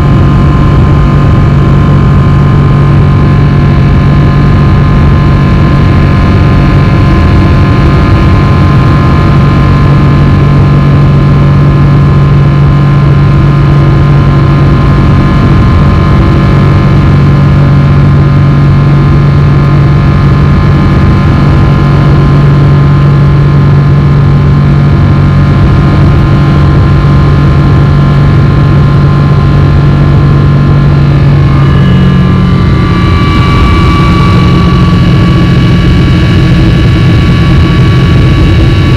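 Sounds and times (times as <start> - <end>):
jet engines humming and whining: 0.0 - 38.9.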